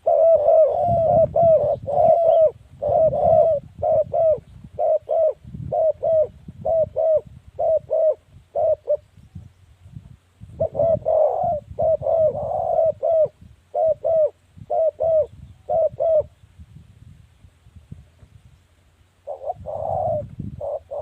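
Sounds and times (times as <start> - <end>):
dove cooing: 0.0 - 9.5, 10.5 - 16.4, 19.2 - 21.0.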